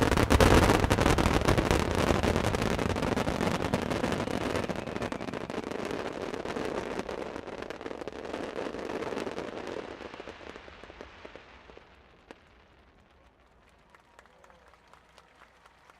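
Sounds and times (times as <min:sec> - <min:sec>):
fireworks crackling: 0:00.0 - 0:14.5.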